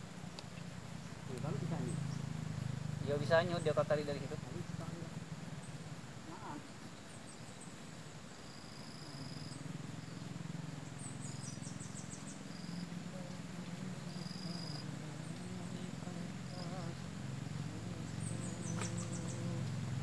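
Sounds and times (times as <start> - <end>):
insect ticks: 0.0 - 20.0
insects chirping: 0.0 - 20.0
steady low hum: 0.0 - 20.0.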